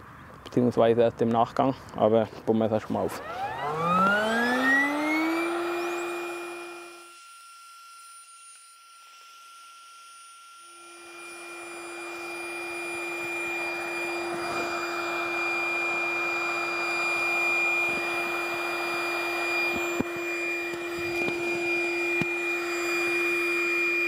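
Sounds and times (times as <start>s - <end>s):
electric air pump whining: 2.8s - 24.0s.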